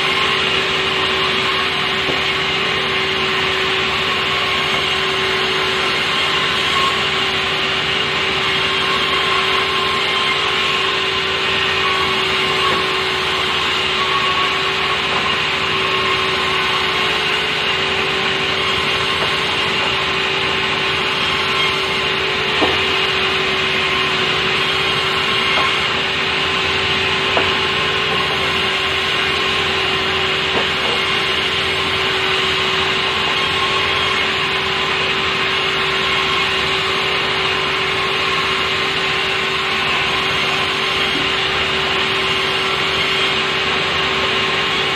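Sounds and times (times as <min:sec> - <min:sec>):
sawmill saw whine: 0:00.0 - 0:44.9.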